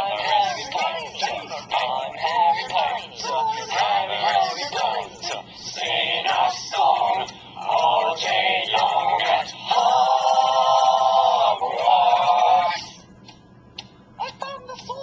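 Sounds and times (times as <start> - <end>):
voices singing a chant: 0.0 - 13.0.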